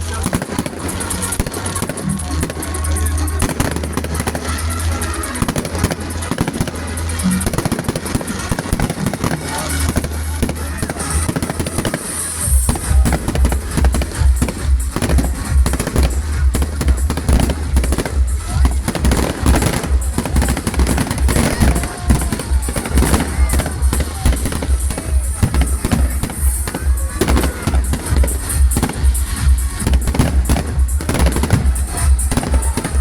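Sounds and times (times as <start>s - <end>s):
fireworks crackling and banging: 0.0s - 33.0s
music with heavy bass beat: 0.0s - 33.0s.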